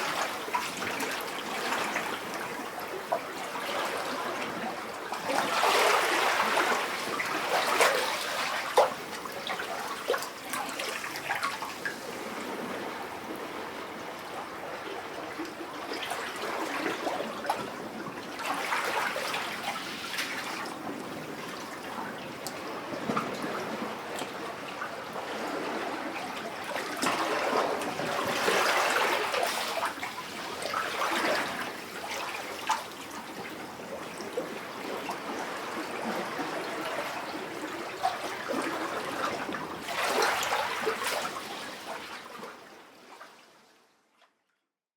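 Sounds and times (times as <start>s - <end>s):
waves lapping in rock cavity: 0.0s - 44.1s.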